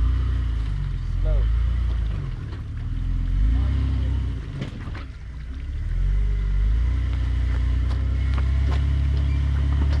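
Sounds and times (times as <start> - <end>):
off-road vehicle engine droning: 0.0 - 10.0.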